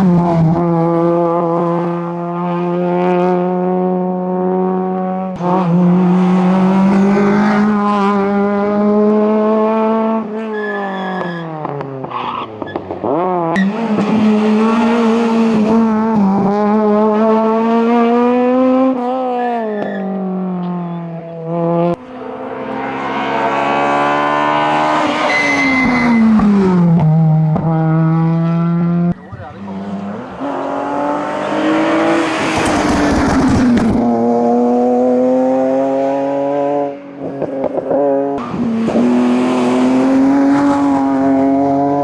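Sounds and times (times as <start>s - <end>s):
car engine at full throttle: 0.0s - 10.7s, 11.3s - 42.0s.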